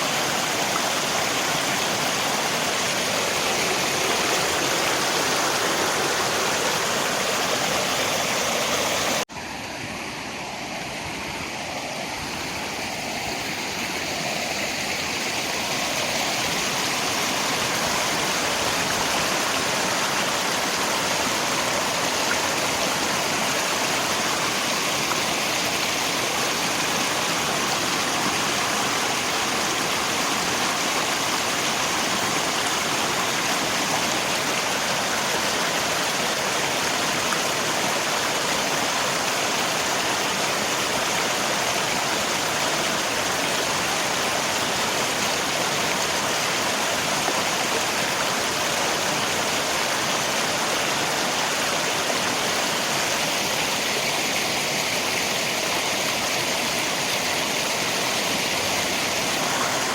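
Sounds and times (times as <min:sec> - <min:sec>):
rain: 0:00.0 - 0:09.3, 0:09.9 - 0:59.9
river water rushing: 0:00.0 - 0:59.9.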